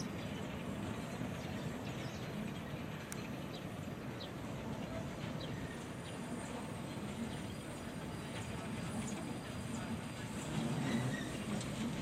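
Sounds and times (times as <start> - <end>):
distant steam train rumble: 0.0 - 12.0.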